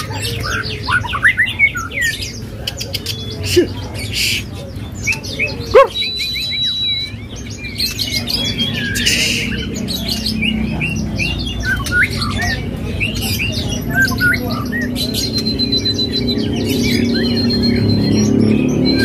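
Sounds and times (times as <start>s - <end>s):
bird singing whistles and chirps: 0.3s - 4.4s, 5.0s - 19.0s.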